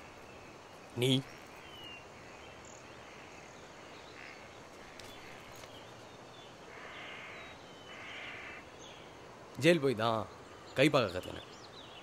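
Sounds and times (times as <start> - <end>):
faint bird chirps: 0.0 - 12.0
steady low hiss: 0.0 - 12.0.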